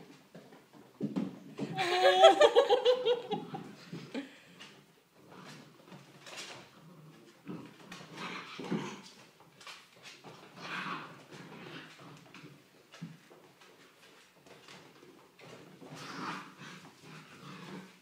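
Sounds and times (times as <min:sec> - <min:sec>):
puppies scuffling: 0:02.8 - 0:18.0.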